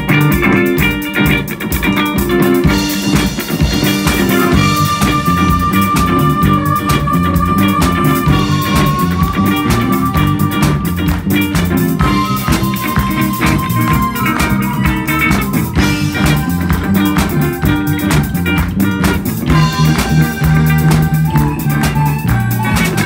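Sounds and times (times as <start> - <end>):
drum kit: 0.0 - 23.0
electric guitar: 0.0 - 23.0
harmonica solo: 2.6 - 23.0.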